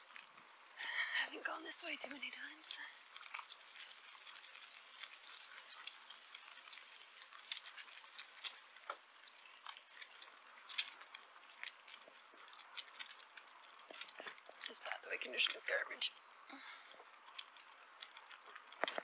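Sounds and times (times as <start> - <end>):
bicycle rattling over rough path: 0.0 - 19.0.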